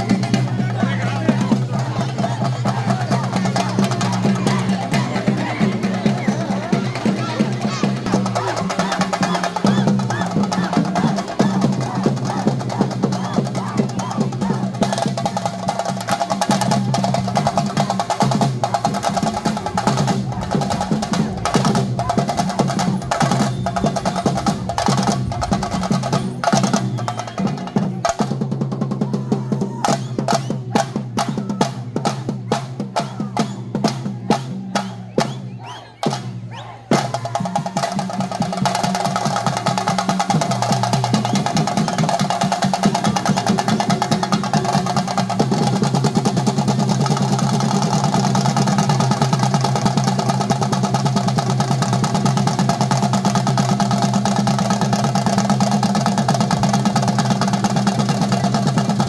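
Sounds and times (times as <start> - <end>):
fast drum roll: 0.0 - 35.4, 36.0 - 59.0.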